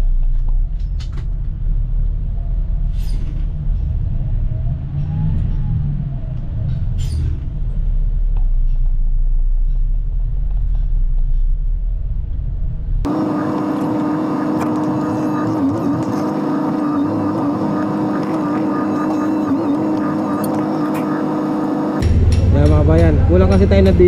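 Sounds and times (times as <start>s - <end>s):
bus diesel engine rumbling: 0.0s - 24.0s.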